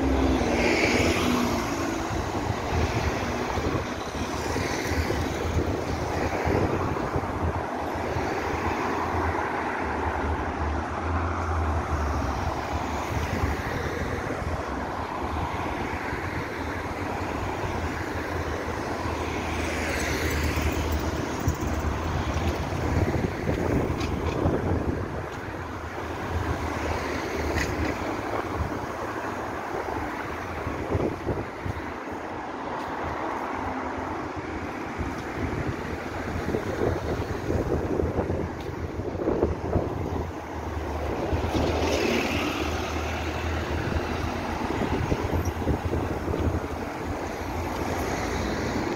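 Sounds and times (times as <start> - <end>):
cars driving past: 0.0 - 48.9
wind rumbling on microphone: 0.0 - 48.9.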